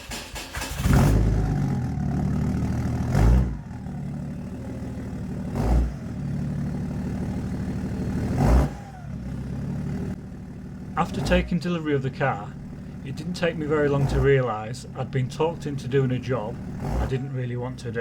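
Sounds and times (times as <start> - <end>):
diesel engine idling and revving: 0.0 - 18.0.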